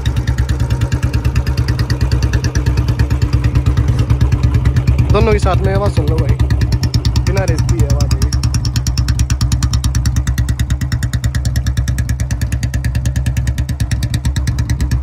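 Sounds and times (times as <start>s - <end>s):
motorcycles idling: 0.0s - 15.0s.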